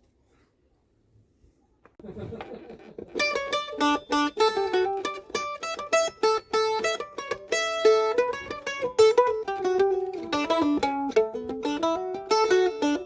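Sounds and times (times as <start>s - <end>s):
mandolin plucked notes: 2.4s - 13.0s.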